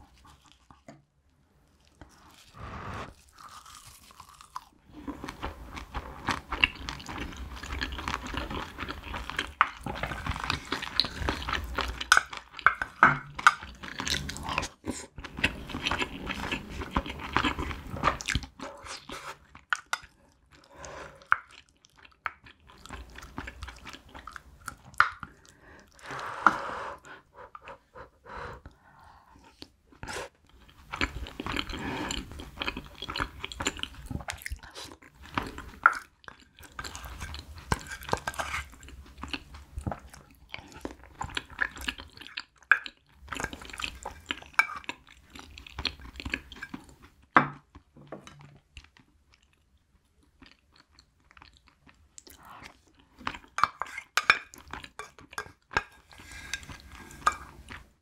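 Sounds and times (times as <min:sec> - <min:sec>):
chewing and crunching food: 0:00.0 - 0:26.2, 0:28.6 - 0:58.0.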